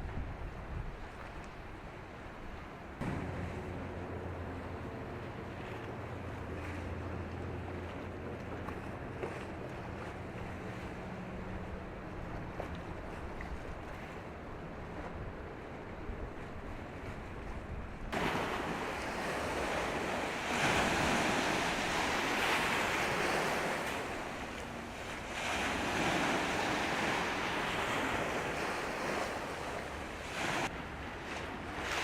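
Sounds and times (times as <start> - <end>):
sea water rushing and splashing: 0.0 - 32.0.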